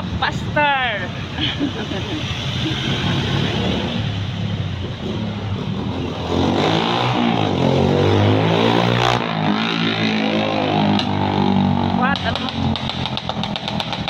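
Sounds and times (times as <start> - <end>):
vehicle engine passing by: 2.1 - 14.0.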